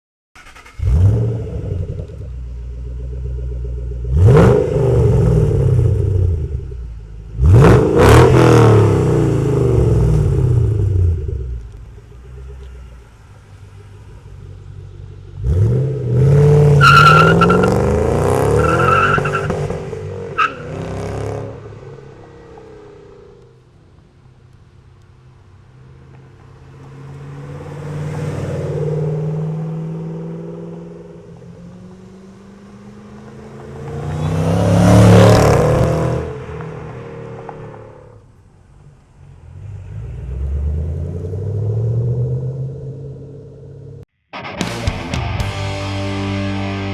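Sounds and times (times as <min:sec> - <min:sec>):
car engine idling and revving: 0:00.4 - 0:44.1.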